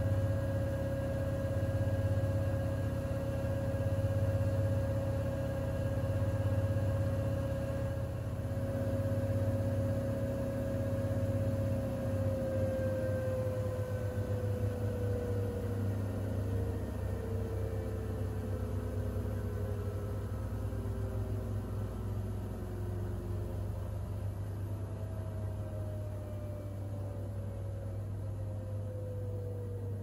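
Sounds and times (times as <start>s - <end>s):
washing machine hum: 0.0s - 30.0s.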